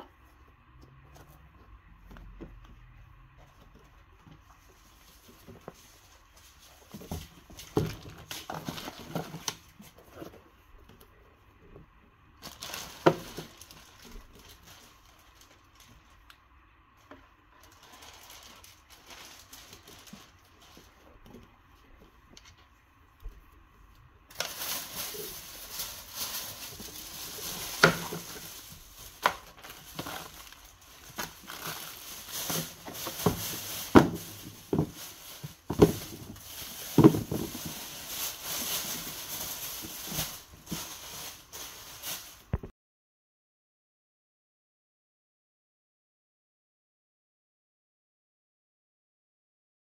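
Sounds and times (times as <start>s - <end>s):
paper and plastic rustling: 0.0s - 23.6s, 24.2s - 42.7s.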